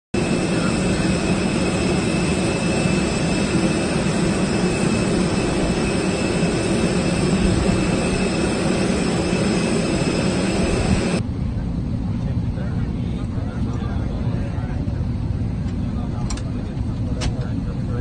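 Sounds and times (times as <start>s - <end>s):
jet turbine rumble and whine: 0.2s - 18.0s.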